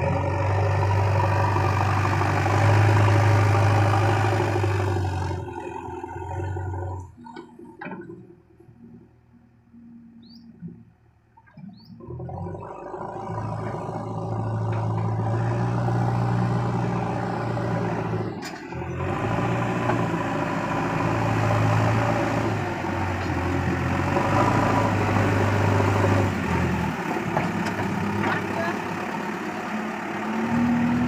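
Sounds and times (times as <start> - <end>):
heavy diesel engine running: 0.0 - 7.6, 12.1 - 31.0.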